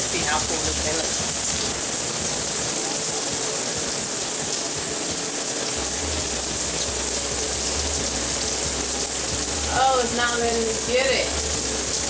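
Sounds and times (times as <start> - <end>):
shower spraying water: 0.0 - 12.0.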